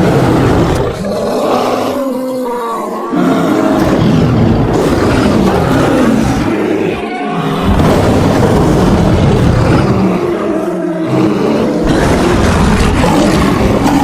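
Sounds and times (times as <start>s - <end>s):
bear roaring and growling: 0.0s - 14.0s.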